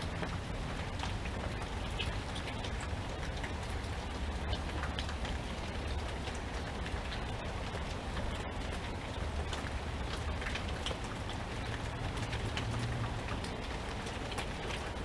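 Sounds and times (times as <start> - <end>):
rain falling: 0.0 - 15.0
raindrops tapping close by: 0.0 - 15.0.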